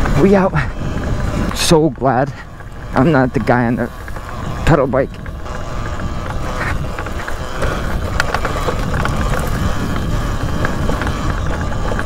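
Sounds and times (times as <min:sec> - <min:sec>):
bike rattling: 0:00.0 - 0:12.0
sharp ticks: 0:00.0 - 0:12.0
wind rumble on microphone: 0:00.0 - 0:12.0.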